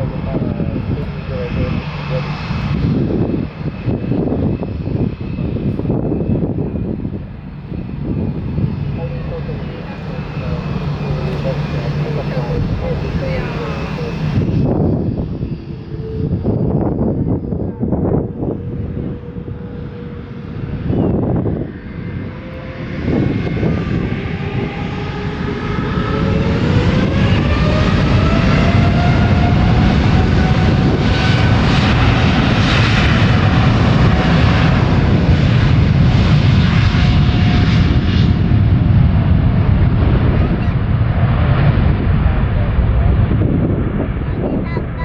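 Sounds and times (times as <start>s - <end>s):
jet engines roaring: 0.0s - 45.0s
wind buffeting microphone: 0.0s - 45.0s.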